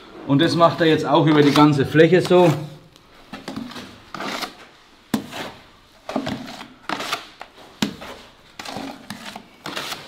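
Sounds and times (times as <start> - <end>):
trowel scraping plaster: 0.7 - 2.8, 3.4 - 10.0.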